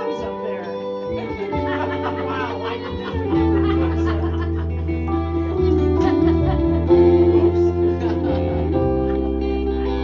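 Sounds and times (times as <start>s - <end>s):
distorted electric guitar: 0.0s - 10.0s
low bass: 0.0s - 10.0s.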